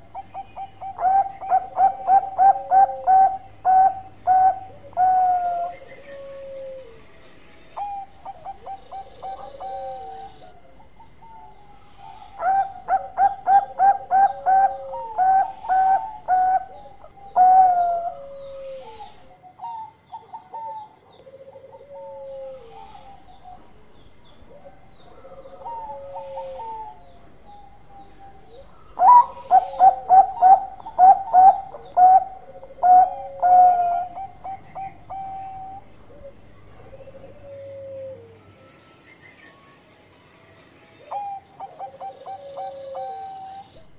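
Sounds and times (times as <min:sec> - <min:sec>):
dove cooing: 0:00.0 - 0:07.2, 0:07.8 - 0:38.6, 0:41.0 - 0:43.9.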